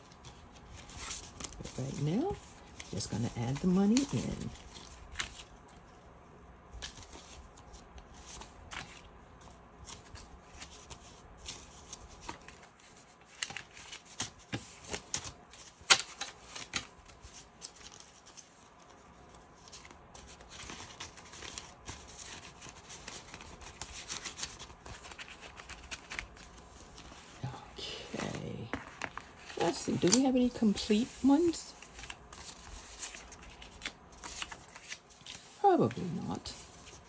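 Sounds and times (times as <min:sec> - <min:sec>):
banknotes rustling and flicking: 0:00.0 - 0:06.0, 0:06.7 - 0:37.0.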